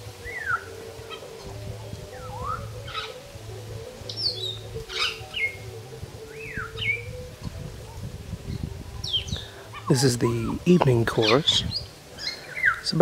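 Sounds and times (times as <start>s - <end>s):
parrots whistling and calling: 0.1s - 13.0s.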